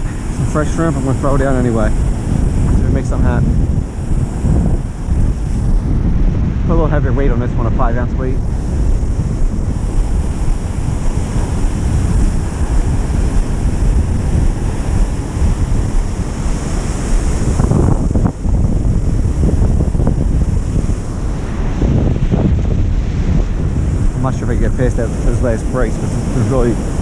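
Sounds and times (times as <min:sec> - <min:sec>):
surf breaking on beach: 0:00.0 - 0:27.0
wind buffeting microphone: 0:00.0 - 0:27.0.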